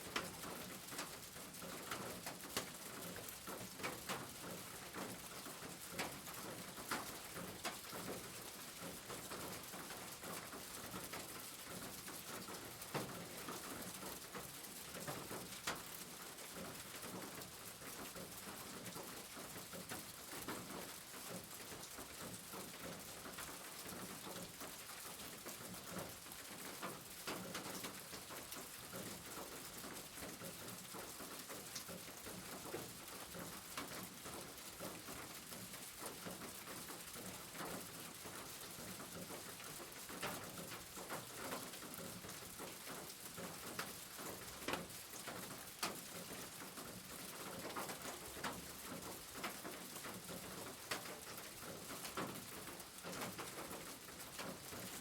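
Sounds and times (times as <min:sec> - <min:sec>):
rain pattering on a roof: 0:00.0 - 0:55.0.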